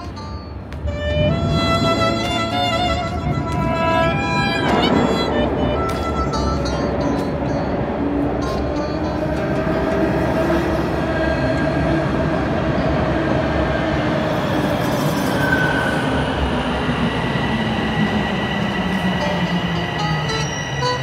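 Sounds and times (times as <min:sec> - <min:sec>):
subway train rumble: 0:00.0 - 0:21.0
high-pitched wheel squeal: 0:00.9 - 0:07.0, 0:10.2 - 0:21.0.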